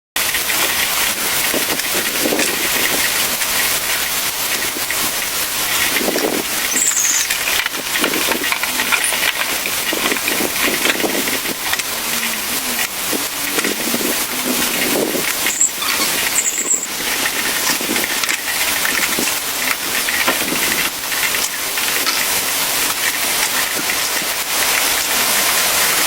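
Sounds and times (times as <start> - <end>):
rain hissing: 0.2 - 26.0
water splashing from dishwashing: 0.2 - 26.0.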